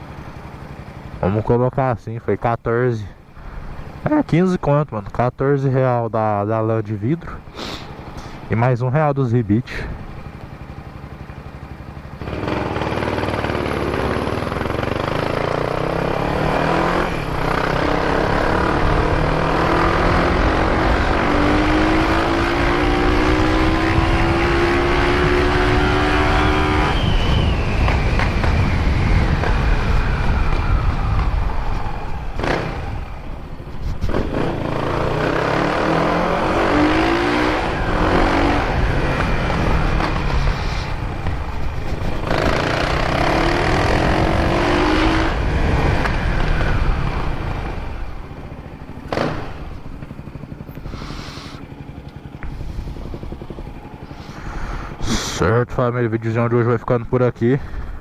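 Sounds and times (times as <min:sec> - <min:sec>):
motorcycle engine accelerating: 0:00.0 - 0:01.7, 0:09.4 - 0:55.6.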